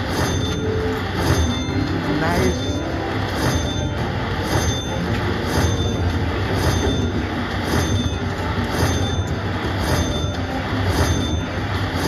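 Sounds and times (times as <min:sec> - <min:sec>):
slot machine looping music: 0:00.0 - 0:12.0
short high ding: 0:00.1 - 0:11.6.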